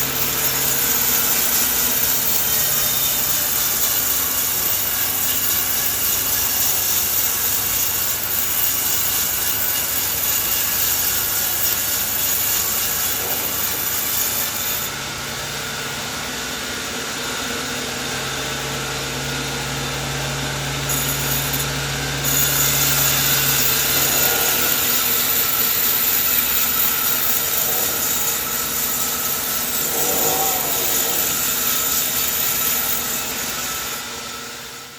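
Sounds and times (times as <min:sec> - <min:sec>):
sawmill saw cutting wood: 0:00.0 - 0:34.9.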